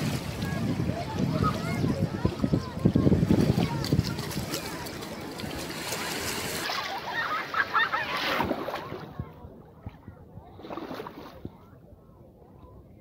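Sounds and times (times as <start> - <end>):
small waves lapping on shore: 0.0 - 11.6
faint distant voices: 0.0 - 13.0.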